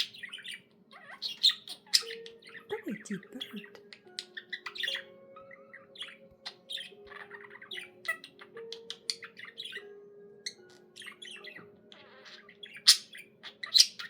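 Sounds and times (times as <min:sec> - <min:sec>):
budgerigar chattering: 0:00.0 - 0:09.9, 0:10.5 - 0:14.0.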